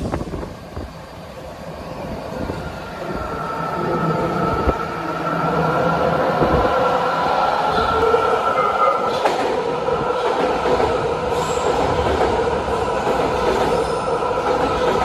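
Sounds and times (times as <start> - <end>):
high-pitched train whine: 0.0 - 15.0
train rumbling in tunnel: 0.0 - 15.0.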